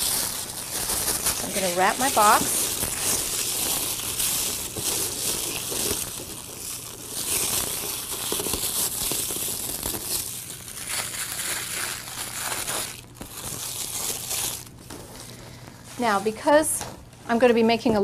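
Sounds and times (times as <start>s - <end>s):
wrapping paper and ribbon rustling: 0.0s - 16.4s.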